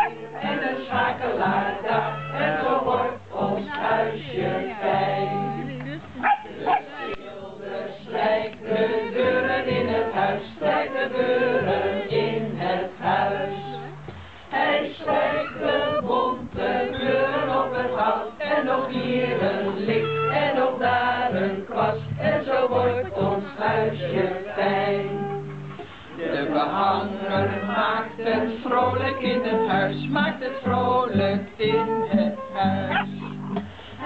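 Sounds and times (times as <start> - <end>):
acoustic guitar: 0.0 - 34.0
group singing a children's song: 0.0 - 34.0.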